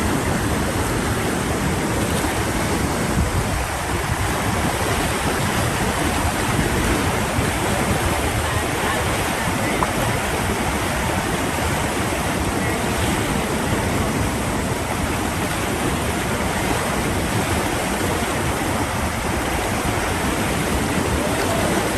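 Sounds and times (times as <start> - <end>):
rushing water: 0.0 - 21.9.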